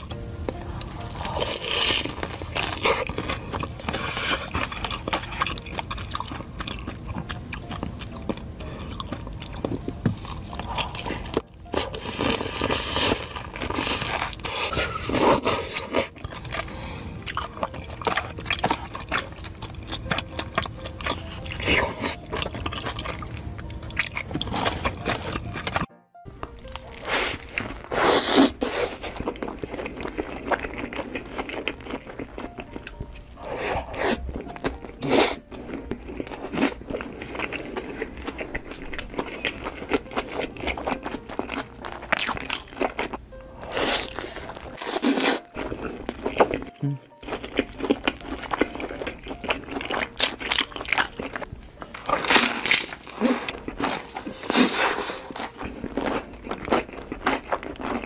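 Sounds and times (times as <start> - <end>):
background music: 0.0 - 58.0
crunchy chewing of fried food: 0.0 - 58.0.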